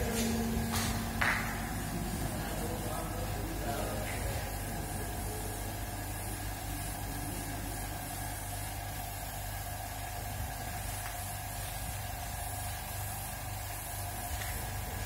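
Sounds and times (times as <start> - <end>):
air compressor humming: 0.0 - 15.0
airbrush hissing: 0.0 - 15.0.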